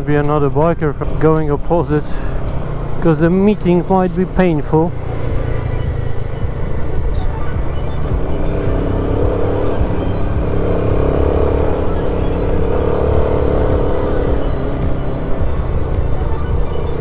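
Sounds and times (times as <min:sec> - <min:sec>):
low rumble of riding: 0:00.0 - 0:17.0
motorcycle engine running: 0:00.0 - 0:17.0.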